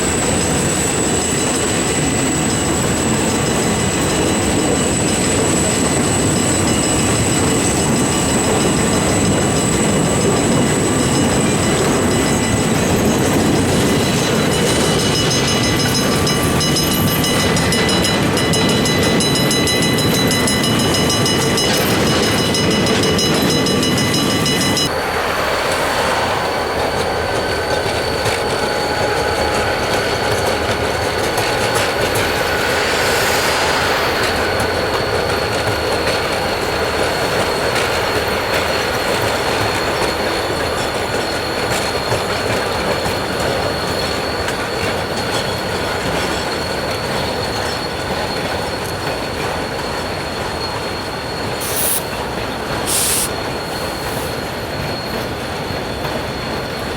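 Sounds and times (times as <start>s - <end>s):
high wheel squeal: 0.0s - 56.9s
train wheels rumbling on rails: 0.0s - 56.9s.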